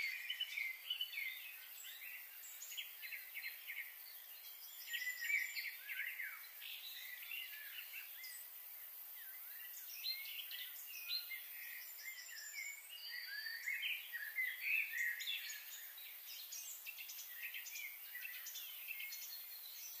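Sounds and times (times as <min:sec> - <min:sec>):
faint high hiss: 0:00.0 - 0:20.0
small birds chirping: 0:00.0 - 0:20.0.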